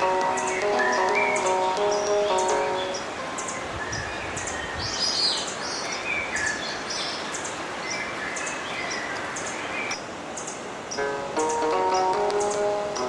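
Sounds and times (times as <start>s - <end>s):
river water rushing: 0.0s - 13.0s
songbirds chirping: 0.0s - 13.0s.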